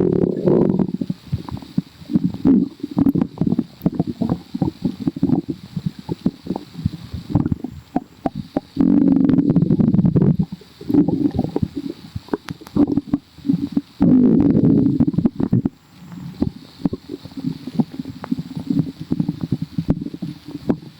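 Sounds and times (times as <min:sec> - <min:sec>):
stomach growling and gurgling: 0:00.0 - 0:20.9.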